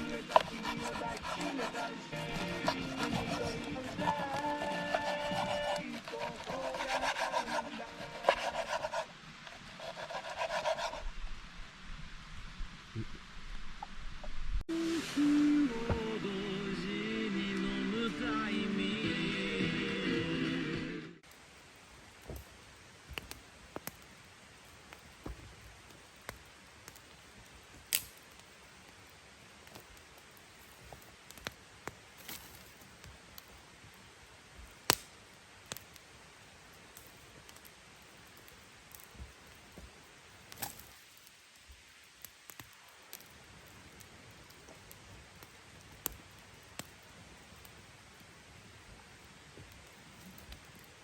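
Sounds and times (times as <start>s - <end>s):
low steady hiss: 5.5s - 51.0s.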